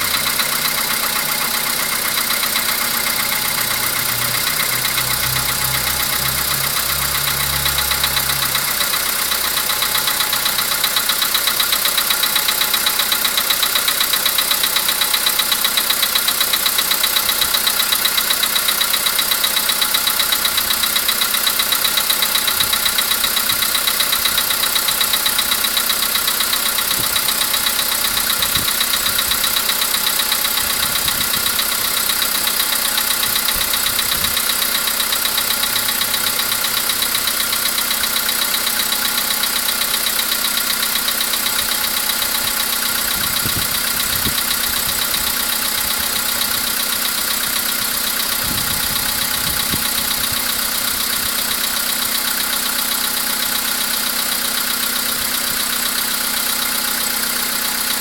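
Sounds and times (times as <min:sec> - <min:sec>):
car engine idling with knocking: 0:00.0 - 0:58.0.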